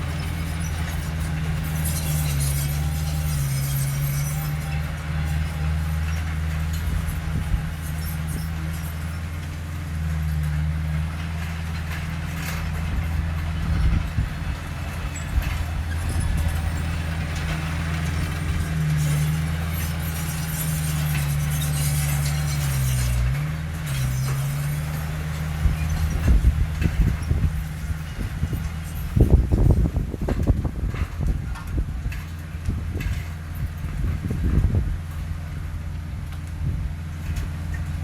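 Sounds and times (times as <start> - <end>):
heavy machine diesel engine: 0.0 - 38.0.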